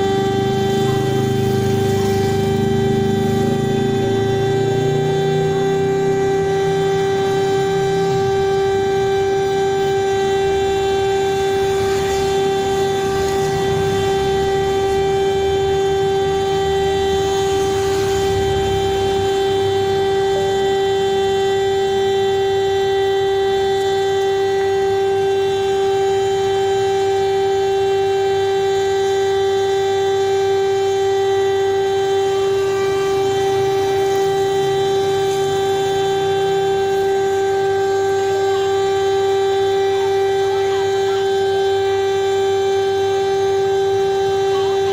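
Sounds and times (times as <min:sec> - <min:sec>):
electronic alarm tone: 0:00.0 - 0:44.9.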